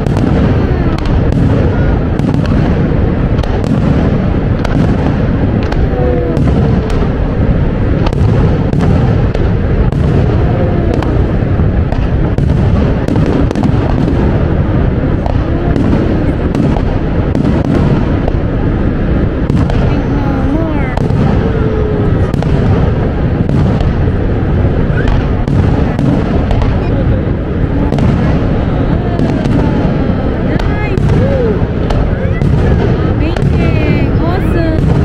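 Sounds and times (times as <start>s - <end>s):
deep rumble: 0.0s - 35.0s
firework shell bursts and crackling: 0.0s - 35.0s.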